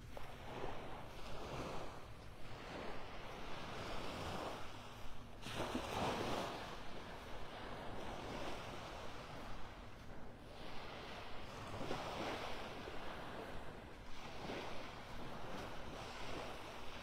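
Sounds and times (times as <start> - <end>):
small waves lapping: 0.0 - 17.0
wind on microphone: 0.0 - 17.0.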